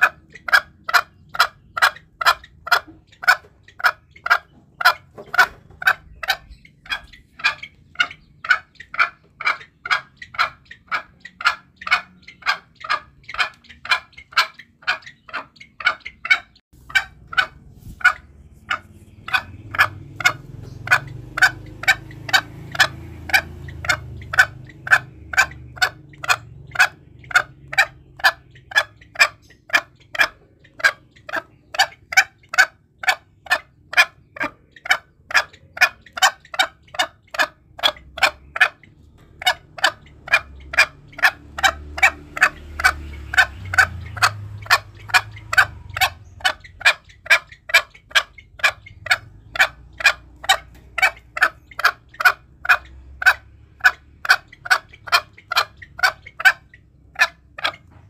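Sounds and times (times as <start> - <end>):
junglefowl clucking calls: 0.0 - 58.0.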